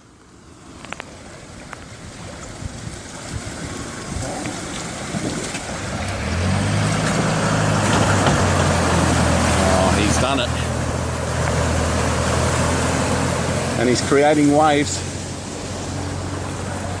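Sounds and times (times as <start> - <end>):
water rushing around truck: 0.0 - 17.0
truck engine low hum: 0.2 - 17.0.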